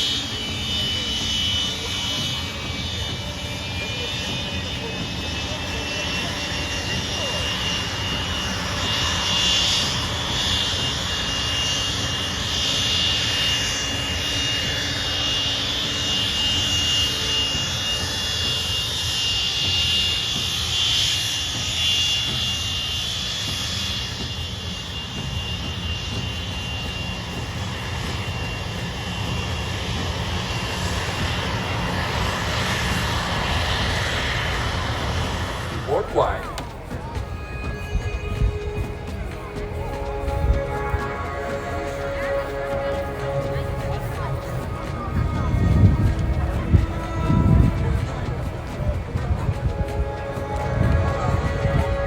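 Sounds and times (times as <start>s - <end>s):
jet engines with turbine whine: 0.0s - 52.0s.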